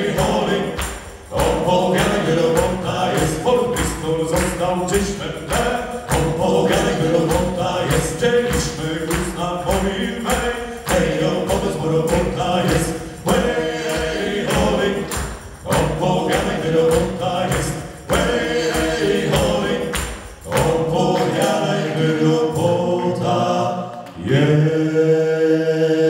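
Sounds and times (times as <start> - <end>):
male group singing in harmony: 0.0 - 26.0.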